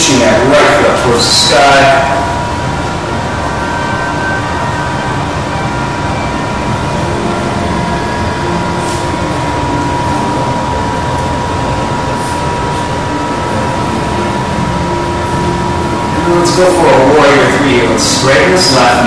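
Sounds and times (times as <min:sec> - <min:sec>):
constant hum-like tone: 0:00.0 - 0:19.0
loud rushing noise: 0:00.0 - 0:19.0.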